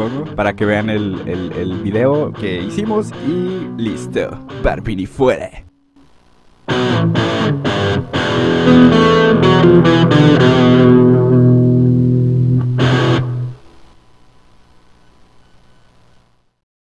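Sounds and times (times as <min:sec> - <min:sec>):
distorted electric guitar chords: 0:00.0 - 0:14.0.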